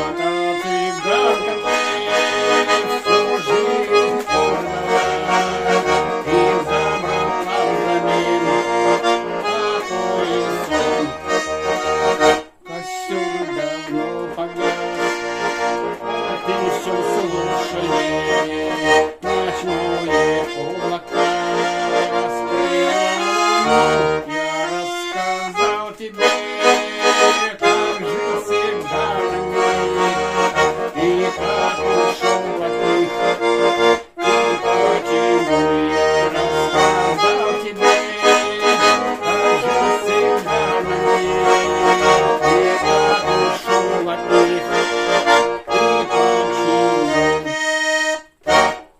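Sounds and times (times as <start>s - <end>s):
button accordion playing: 0.0s - 48.9s.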